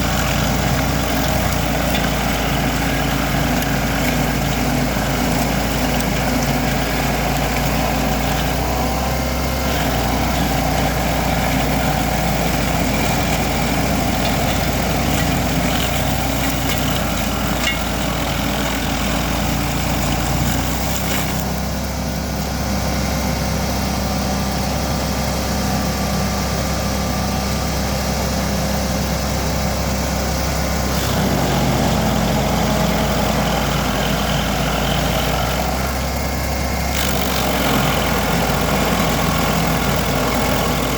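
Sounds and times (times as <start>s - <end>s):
cutter wheel grinding stump: 0.0s - 23.1s, 29.6s - 40.9s
stump grinder engine running: 0.0s - 40.9s.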